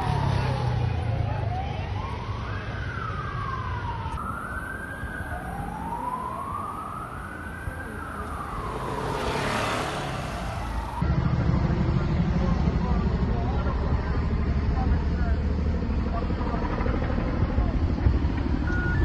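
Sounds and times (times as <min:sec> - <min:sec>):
emergency vehicle siren wailing: 0:00.0 - 0:13.1, 0:16.1 - 0:19.0.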